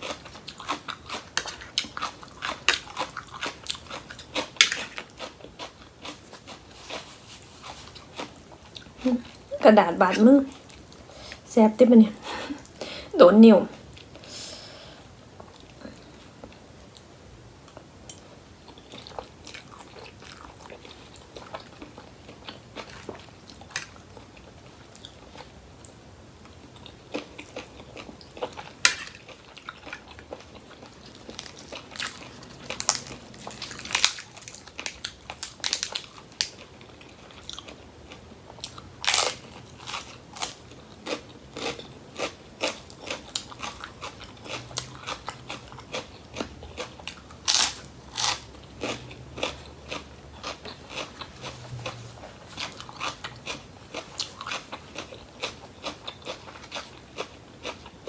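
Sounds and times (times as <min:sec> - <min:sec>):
person chewing crunchy vegetables: 0:00.0 - 0:09.6, 0:13.7 - 0:58.0.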